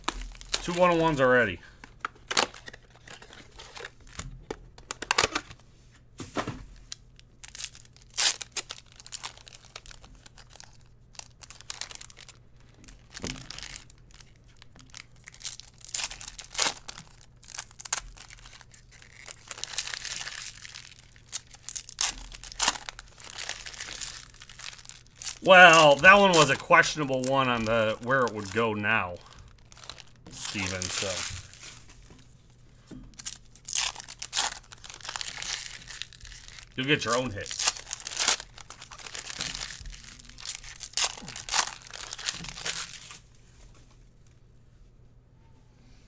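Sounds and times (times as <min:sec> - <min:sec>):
foil wrappers crinkling and ripping: 0:00.0 - 0:05.6, 0:06.8 - 0:32.1, 0:33.1 - 0:43.2.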